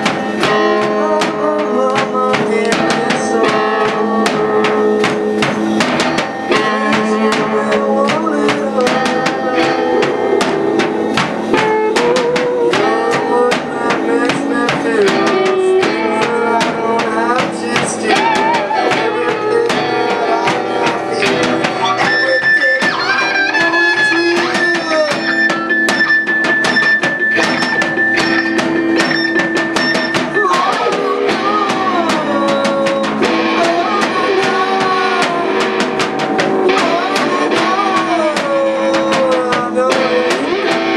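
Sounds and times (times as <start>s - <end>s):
person singing into a microphone: 0.0s - 5.5s, 6.2s - 10.5s, 11.5s - 26.8s, 29.8s - 40.9s
drum kit: 0.0s - 40.9s
electric guitar: 0.0s - 40.9s
keyboard: 0.0s - 40.9s.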